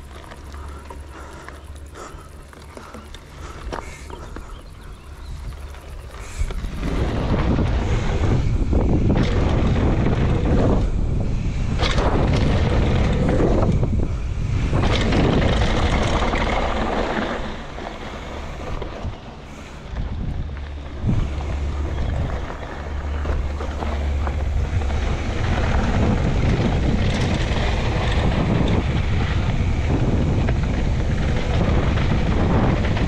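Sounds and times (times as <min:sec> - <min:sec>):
wind rushing over microphone: 0:02.9 - 0:33.0.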